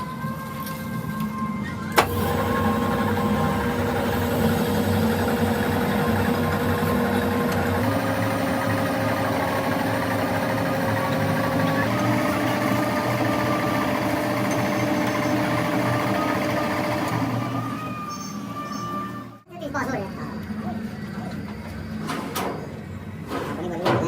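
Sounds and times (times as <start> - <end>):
machine motor whine: 0.0 - 19.4.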